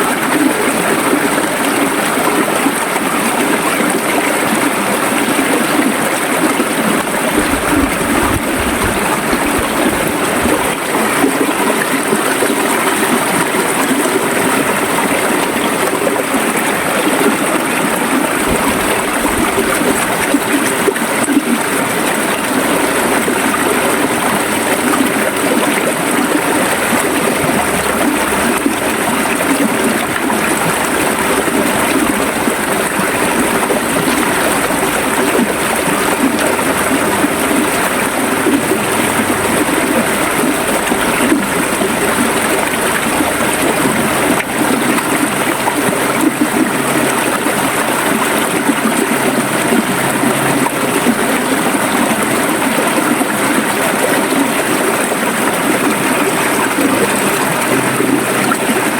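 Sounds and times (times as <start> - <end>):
river water gurgling over rocks: 0.0 - 58.9.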